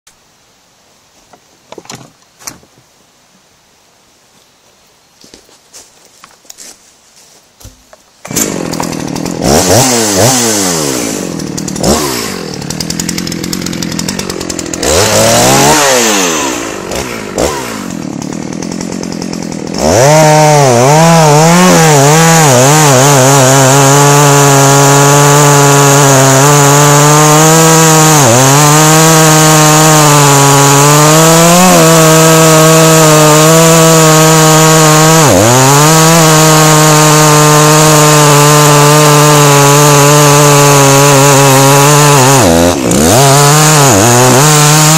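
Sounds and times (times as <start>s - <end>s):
chainsaw cutting wood: 7.6s - 44.9s
chainsaw revving: 8.2s - 44.9s.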